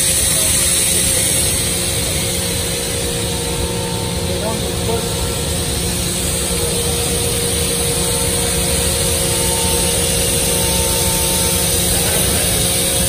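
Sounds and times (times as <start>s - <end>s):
heavy machinery hum and rumble: 0.0s - 13.0s
steady tones: 0.0s - 13.0s.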